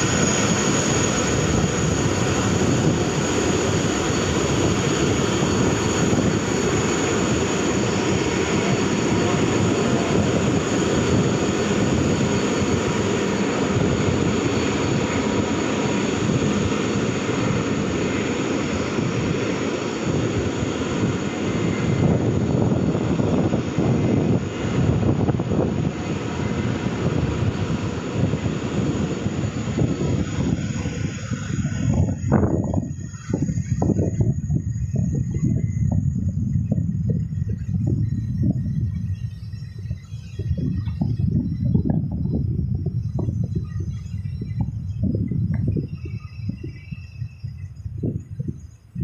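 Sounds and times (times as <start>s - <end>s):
high engine whine: 0.0s - 49.0s
jet engines roaring: 0.0s - 49.0s.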